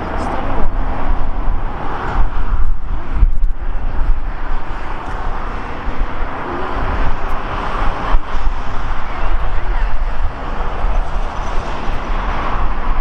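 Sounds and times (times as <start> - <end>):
jet engine rush: 0.0 - 13.0.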